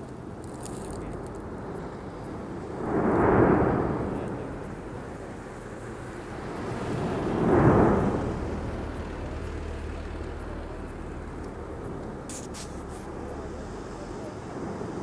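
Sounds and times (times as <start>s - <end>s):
lava fountain rumbling: 0.0s - 15.0s.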